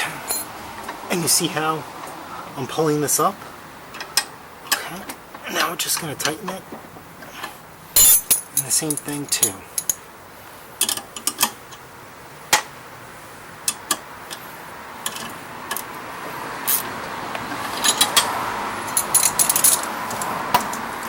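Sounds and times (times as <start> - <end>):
faint background noise: 0.0 - 21.0.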